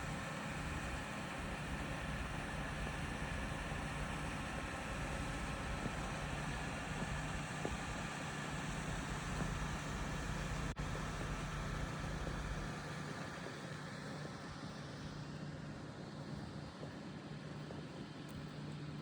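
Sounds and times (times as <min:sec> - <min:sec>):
truck engine drone: 0:00.0 - 0:18.8.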